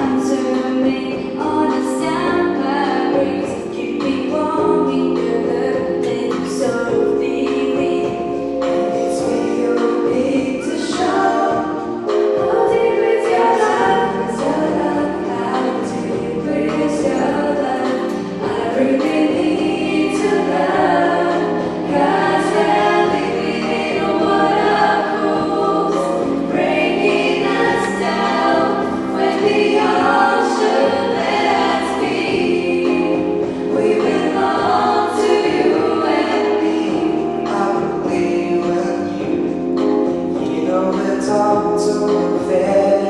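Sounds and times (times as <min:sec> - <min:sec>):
children's group singing: 0:00.0 - 0:43.0
instrumental accompaniment with percussion: 0:00.0 - 0:43.0.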